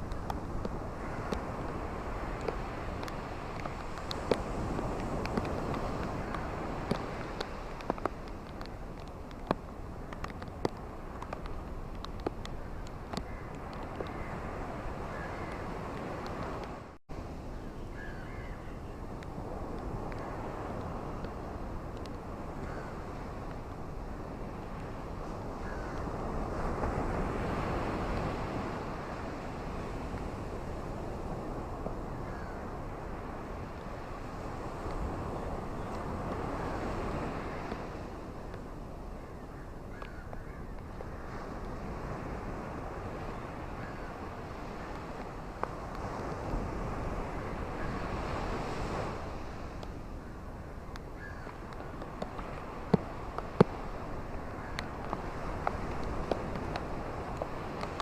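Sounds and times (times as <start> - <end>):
ocean waves washing onto beach: 0.0 - 58.0.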